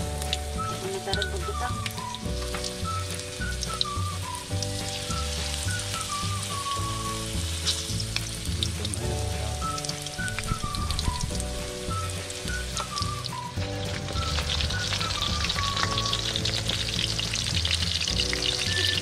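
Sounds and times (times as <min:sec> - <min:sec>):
background music with bass: 0:00.0 - 0:19.0
fritters sizzling in hot oil: 0:00.0 - 0:19.0.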